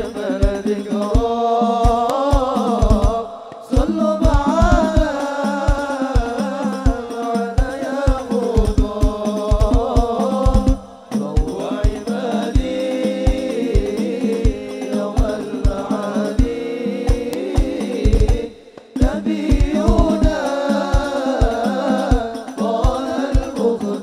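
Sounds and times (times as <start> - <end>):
frame drums beating: 0.0 - 24.0
man singing through microphone: 0.0 - 24.0.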